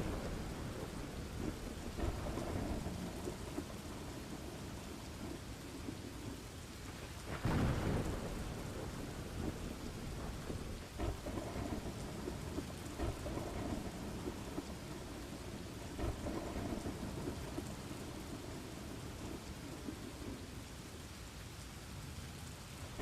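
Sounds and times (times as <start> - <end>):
low rolling thunder: 0.0 - 20.8
rain falling: 0.0 - 23.0.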